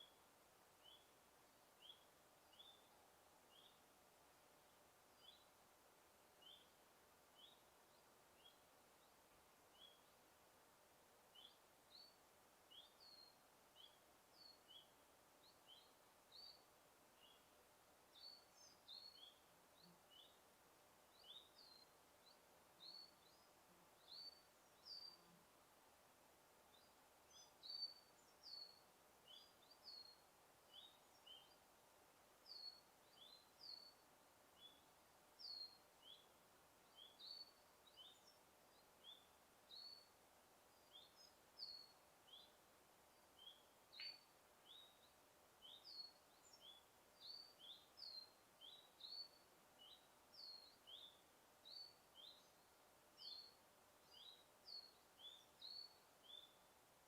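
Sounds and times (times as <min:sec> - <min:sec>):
light background hiss: 0:00.0 - 0:57.0
small birds chirping: 0:00.0 - 0:57.0.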